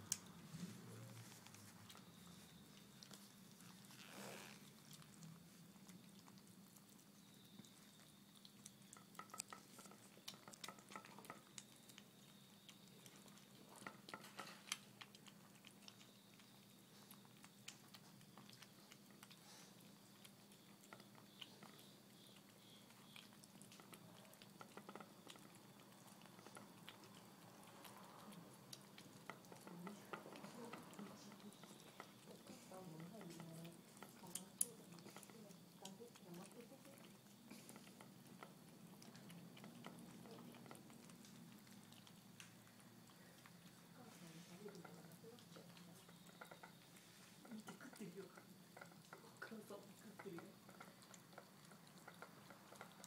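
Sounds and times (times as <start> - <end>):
cat chewing food: 0.0 - 53.0.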